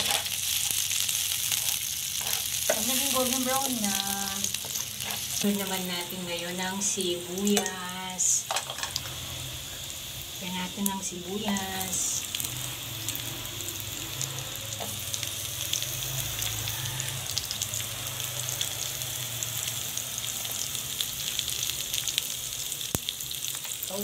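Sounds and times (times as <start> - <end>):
onion and garlic sizzling in fat: 0.0 - 24.0.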